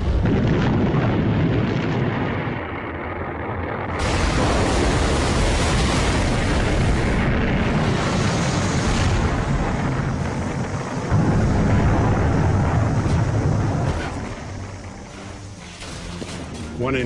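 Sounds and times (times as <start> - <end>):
rocket roaring rumble: 0.0 - 16.6.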